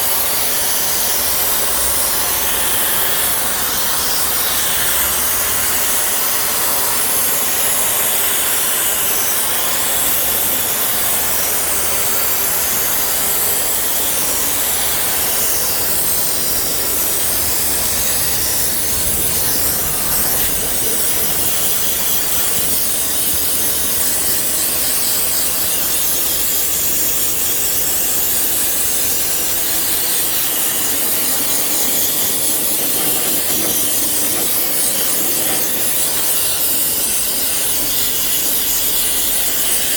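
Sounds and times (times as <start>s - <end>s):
pressurised spray hissing: 0.0s - 39.9s.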